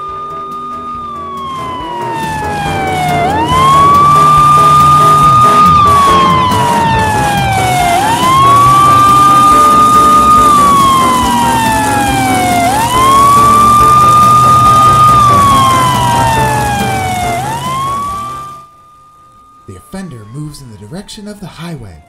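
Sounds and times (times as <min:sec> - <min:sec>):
police siren wailing: 0:00.0 - 0:22.0.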